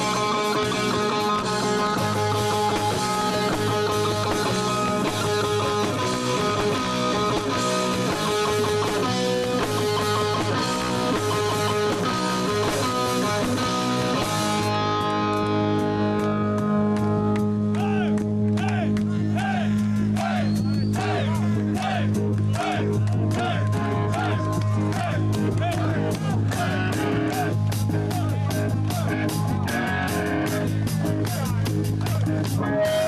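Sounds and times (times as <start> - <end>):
drums: 0.0 - 33.0
electric guitar: 0.0 - 33.0
live rock band playing: 0.0 - 33.0.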